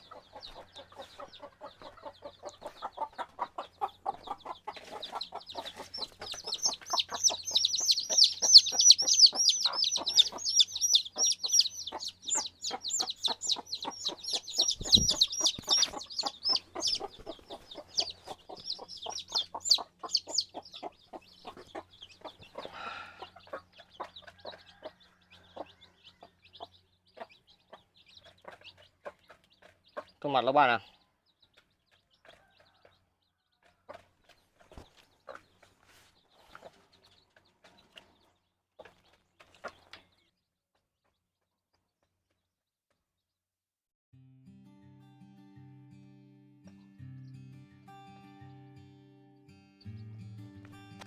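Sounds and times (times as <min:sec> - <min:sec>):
chickens clucking: 0:00.0 - 0:41.2.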